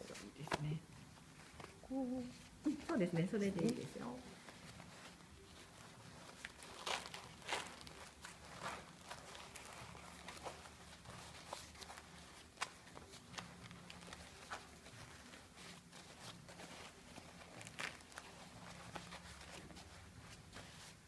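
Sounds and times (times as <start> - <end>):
fabric rustling: 0.0 - 21.0.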